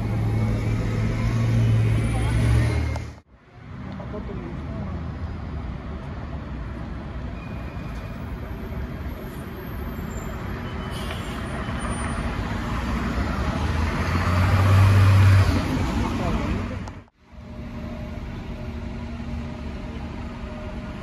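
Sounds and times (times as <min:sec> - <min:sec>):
bus engine drone: 0:00.0 - 0:21.0
street traffic: 0:00.0 - 0:21.0.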